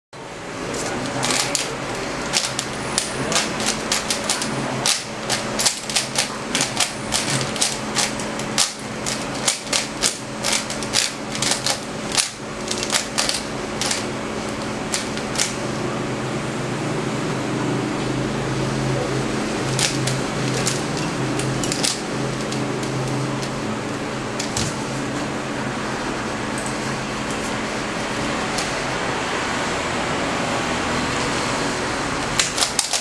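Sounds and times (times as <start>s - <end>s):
steady low hum: 0.2s - 33.0s.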